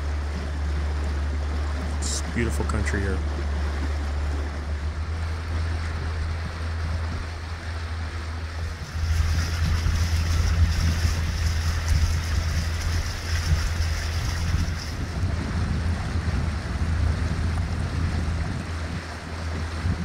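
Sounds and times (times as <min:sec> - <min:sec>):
boat motor humming: 0:00.0 - 0:20.0
water rushing: 0:00.0 - 0:20.0
wind: 0:00.0 - 0:20.0.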